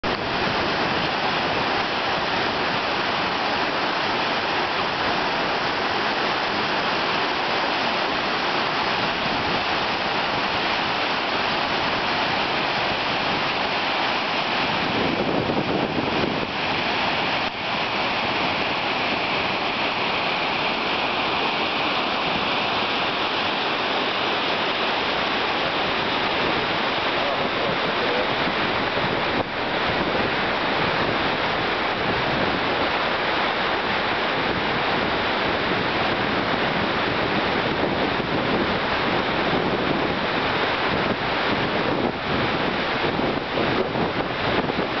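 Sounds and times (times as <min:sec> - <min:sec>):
stream rushing over rocks: 0:00.0 - 0:45.0.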